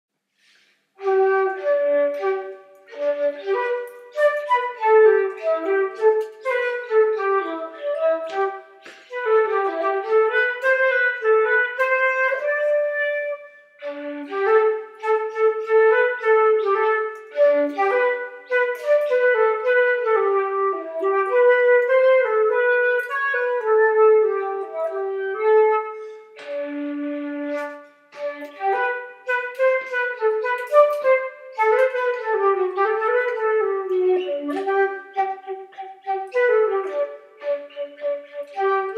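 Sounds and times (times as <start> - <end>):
flute-like woodwind melody: 0.4 - 38.9.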